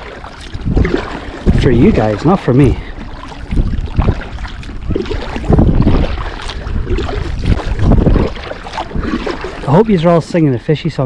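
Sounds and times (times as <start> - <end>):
water washing around kayak: 0.0 - 11.0
wind buffeting microphone: 0.0 - 11.0.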